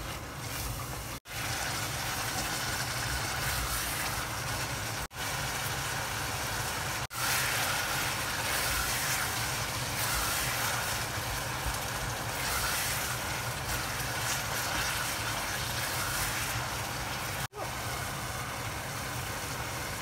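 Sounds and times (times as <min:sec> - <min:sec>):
sauce sizzling in a pot: 0:00.4 - 0:20.0.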